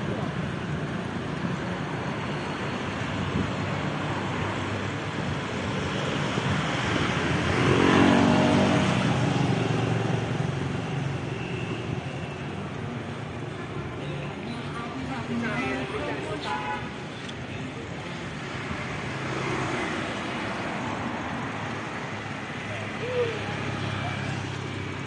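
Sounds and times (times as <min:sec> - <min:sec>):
road traffic noise: 0:00.0 - 0:25.0
vehicle engine: 0:00.0 - 0:25.0.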